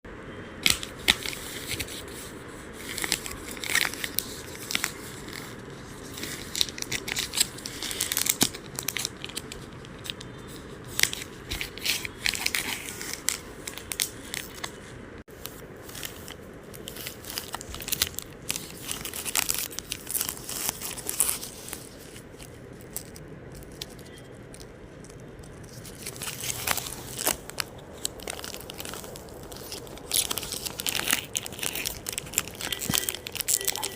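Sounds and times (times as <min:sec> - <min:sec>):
chocolate wrapper tearing and crinkling: 0:02.8 - 0:14.8, 0:15.4 - 0:33.9.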